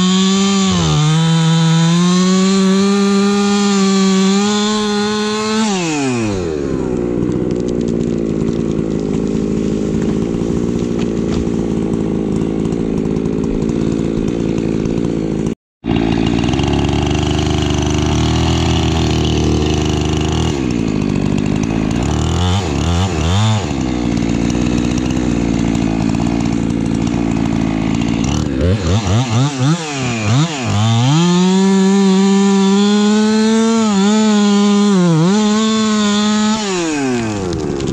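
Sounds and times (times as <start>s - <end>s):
chainsaw idling and revving: 0.0s - 37.9s.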